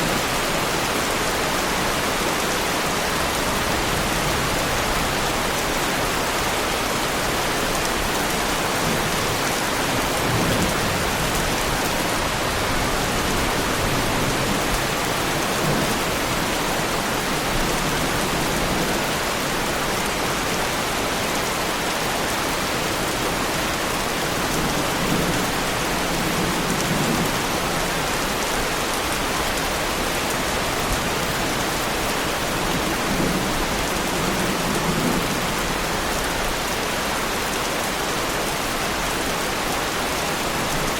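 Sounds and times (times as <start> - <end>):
heavy rain on car bodywork: 0.0 - 40.9.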